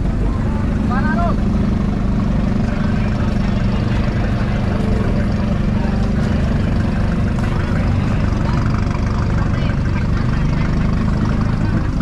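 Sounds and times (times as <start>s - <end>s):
crowd noise: 0.0s - 12.0s
engines idling: 0.0s - 12.0s.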